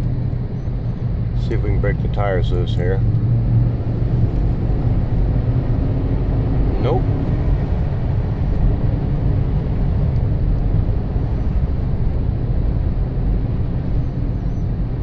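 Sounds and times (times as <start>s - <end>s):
truck engine and tyres drone: 0.0s - 15.0s.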